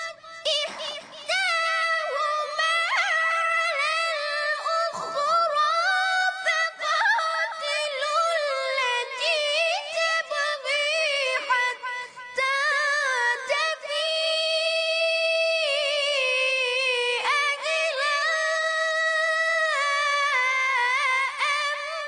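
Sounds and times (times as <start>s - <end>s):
person chanting melodically: 0.0s - 22.0s.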